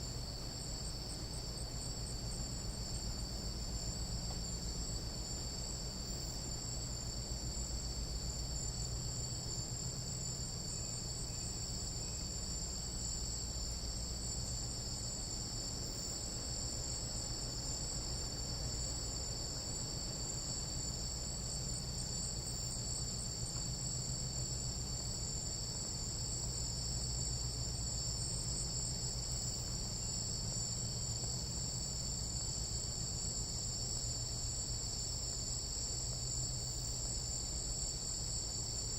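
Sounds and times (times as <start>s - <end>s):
night insects trilling: 0.0s - 38.9s.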